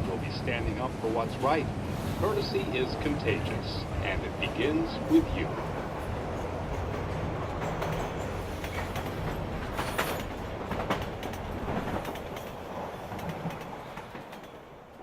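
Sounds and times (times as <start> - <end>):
subway train rumbling and rattling: 0.0 - 15.0.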